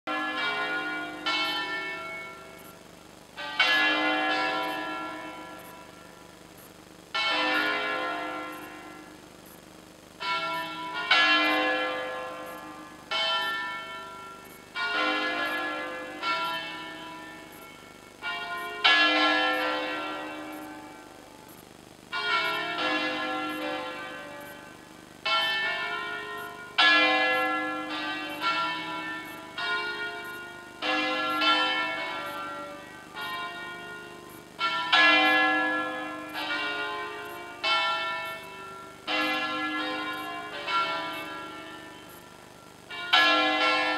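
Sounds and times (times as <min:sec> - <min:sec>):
church bells ringing: 0:00.1 - 0:02.7, 0:03.4 - 0:06.3, 0:07.1 - 0:09.2, 0:10.2 - 0:21.5, 0:22.1 - 0:43.9.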